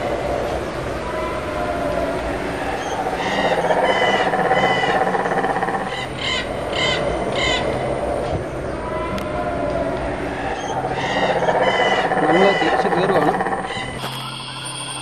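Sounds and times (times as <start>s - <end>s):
pulsing background chorus: 0.0s - 15.0s.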